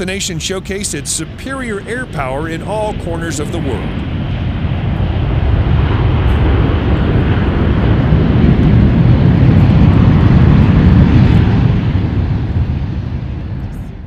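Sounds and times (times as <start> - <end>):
military plane engine rumble: 0.0 - 14.0.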